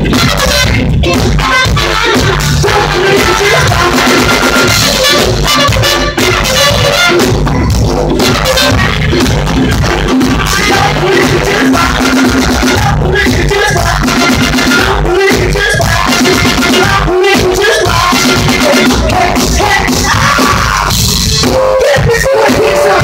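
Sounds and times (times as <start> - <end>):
drum kit: 0.0 - 23.0
electric bass guitar: 0.0 - 23.0
live band playing up-tempo music: 0.0 - 23.0
trumpet: 0.0 - 23.0.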